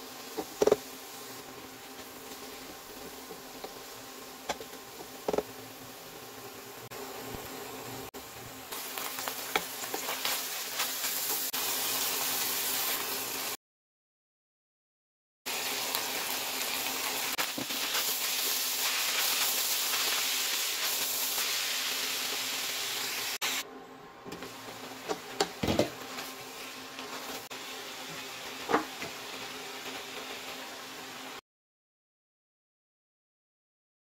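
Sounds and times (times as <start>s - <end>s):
meat and vegetables sizzling in pot: 0.0s - 13.6s, 15.5s - 23.7s, 24.3s - 31.4s.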